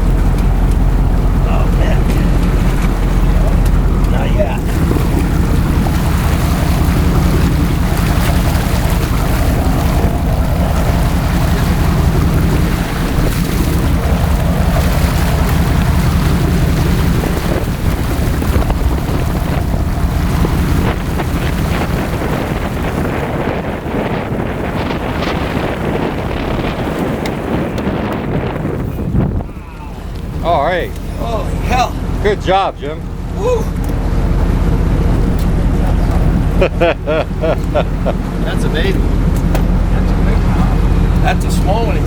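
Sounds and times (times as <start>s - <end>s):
water noise: 0.0s - 42.0s
wind buffeting microphone: 0.0s - 42.0s.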